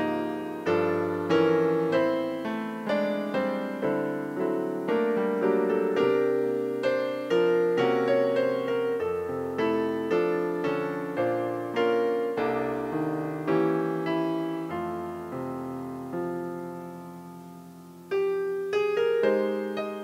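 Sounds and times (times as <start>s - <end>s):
solo piano slow chords: 0.0s - 20.0s.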